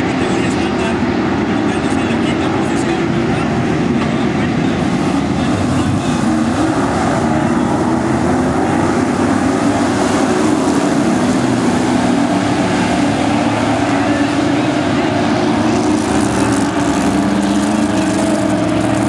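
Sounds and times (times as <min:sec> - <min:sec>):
racing car engines droning: 0:00.0 - 0:19.0.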